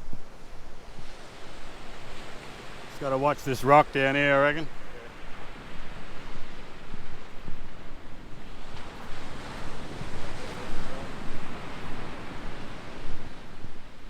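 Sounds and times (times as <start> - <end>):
surf washing on beach: 0.0 - 14.0
wind buffeting microphone: 0.0 - 14.0.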